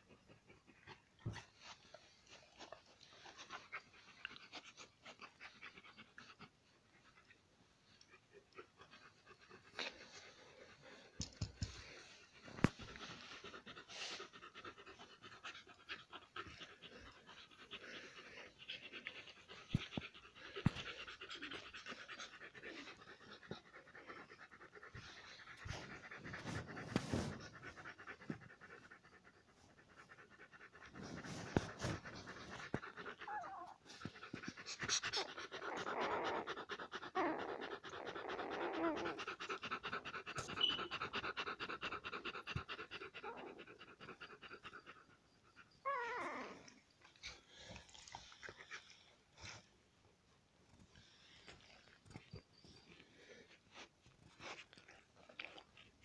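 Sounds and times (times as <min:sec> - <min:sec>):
dog panting: 0:00.0 - 0:49.7.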